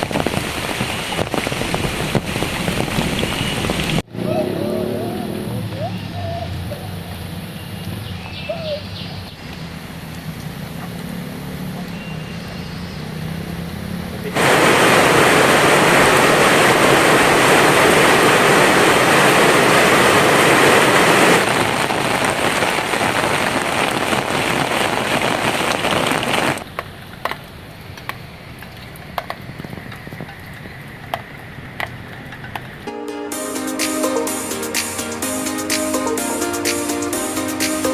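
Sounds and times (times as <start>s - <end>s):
heavy rain pouring: 0.0s - 8.3s, 9.0s - 12.0s, 13.0s - 37.9s.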